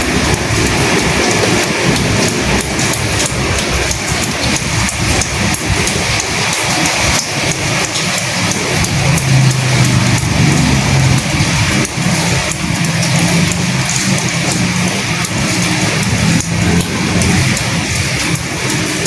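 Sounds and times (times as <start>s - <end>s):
rain falling with wind: 0.0s - 19.0s.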